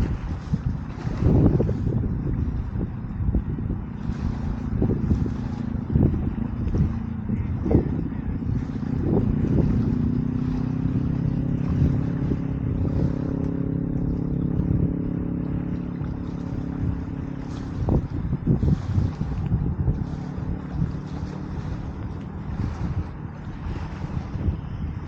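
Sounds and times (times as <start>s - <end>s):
motor engine running: 0.0s - 25.0s
wind buffeting microphone: 0.0s - 25.0s.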